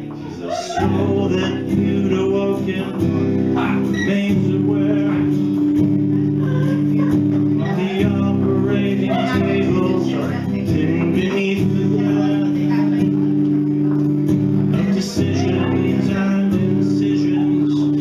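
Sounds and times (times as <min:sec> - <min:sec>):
acoustic guitar chords: 0:00.0 - 0:18.0
man singing: 0:00.0 - 0:18.0.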